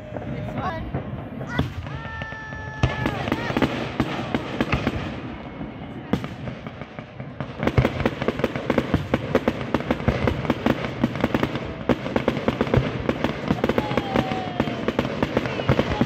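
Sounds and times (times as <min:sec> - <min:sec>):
fireworks bursting with bangs: 0:00.0 - 0:16.0
fireworks crackling: 0:00.0 - 0:16.0.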